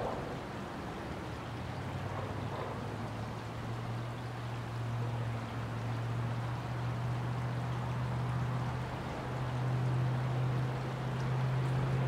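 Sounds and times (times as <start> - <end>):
creek water flowing: 0.0 - 12.0
traffic rumble on bridge: 0.0 - 12.0.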